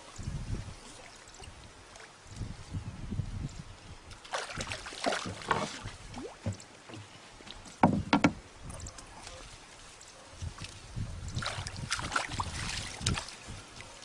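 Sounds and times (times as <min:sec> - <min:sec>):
water sloshing and splashing: 0:00.0 - 0:02.8, 0:04.0 - 0:14.0.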